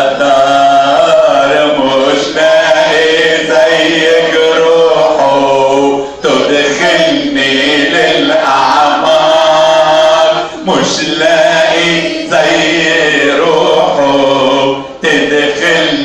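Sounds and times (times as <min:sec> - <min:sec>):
people singing a hymn: 0:00.0 - 0:16.0.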